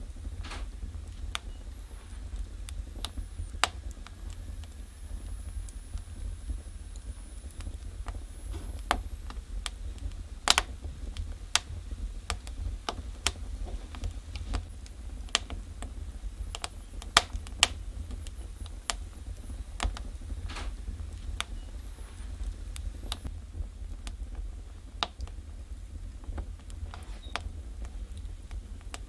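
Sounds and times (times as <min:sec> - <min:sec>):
steady low rumble: 0:00.0 - 0:29.0
wood fire crackling and popping: 0:00.0 - 0:29.0.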